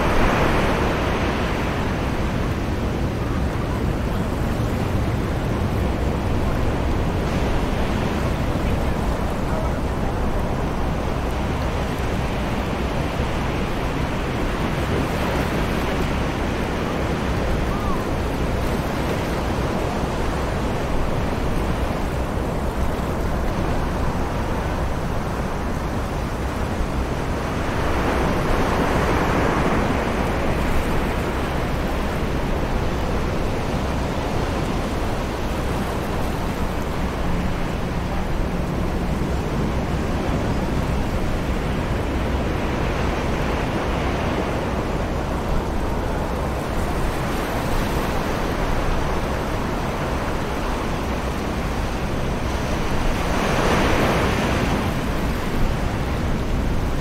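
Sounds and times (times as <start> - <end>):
distant ocean waves: 0.0 - 57.0
low wind rumble: 0.0 - 57.0.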